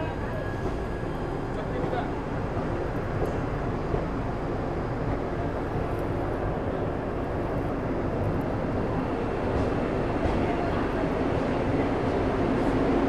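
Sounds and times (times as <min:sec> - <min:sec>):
passenger train running rumble: 0:00.0 - 0:13.0.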